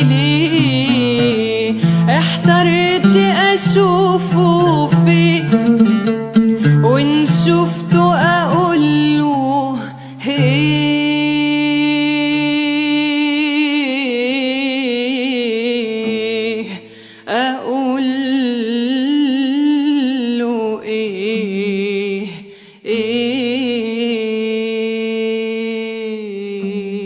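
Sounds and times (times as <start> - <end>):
woman singing melisma: 0.0 - 27.0.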